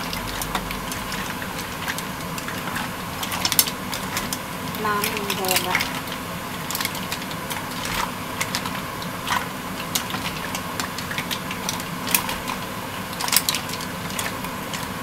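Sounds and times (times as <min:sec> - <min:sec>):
mussel shells clattering in pan: 0:00.0 - 0:15.0
steady hum: 0:00.0 - 0:15.0.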